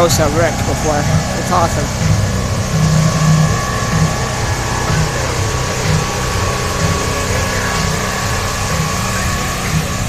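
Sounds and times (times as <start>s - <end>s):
faint whine: 0.0s - 10.0s
steady hiss: 0.0s - 10.0s
vehicle engine rumbling: 0.0s - 10.0s.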